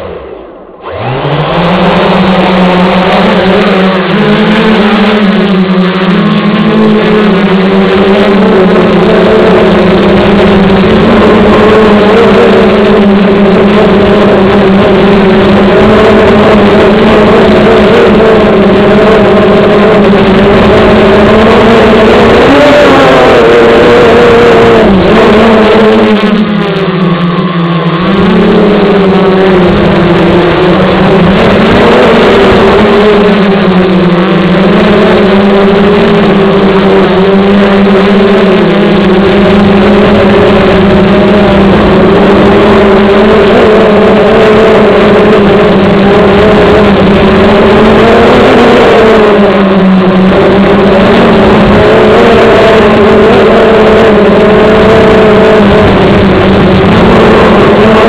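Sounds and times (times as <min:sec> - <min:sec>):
drone motors buzzing: 0:00.0 - 0:58.0.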